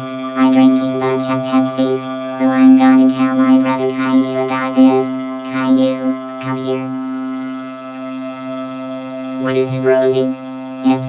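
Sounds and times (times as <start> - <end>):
synthesizer held chord: 0.0 - 11.0.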